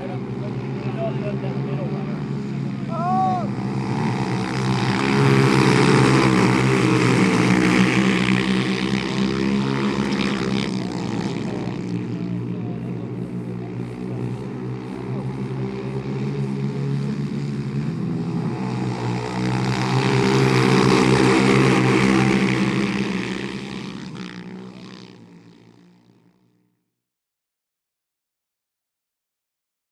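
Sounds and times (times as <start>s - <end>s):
pit bike engines running: 0.0s - 26.4s.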